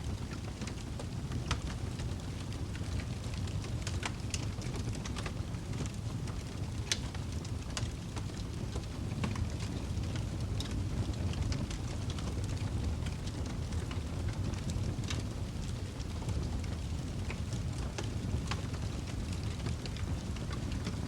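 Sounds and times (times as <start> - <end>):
fire crackles and pops: 0.0 - 21.0
fire flames rumbling: 0.0 - 21.0.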